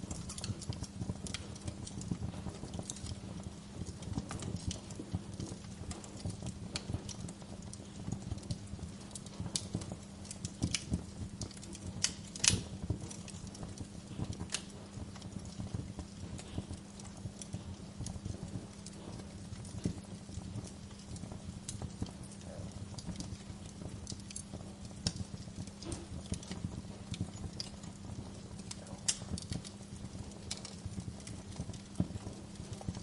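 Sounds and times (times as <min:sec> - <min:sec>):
low steady rumble: 0:00.0 - 0:33.0
wood fire crackling: 0:00.0 - 0:33.0.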